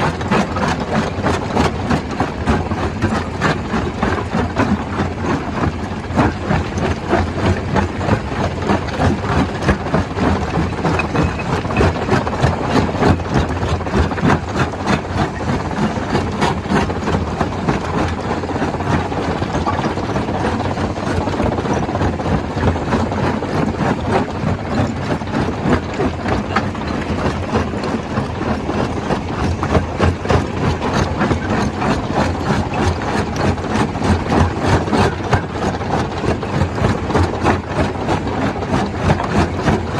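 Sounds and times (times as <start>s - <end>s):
stone crusher rumbling: 0.0s - 39.9s.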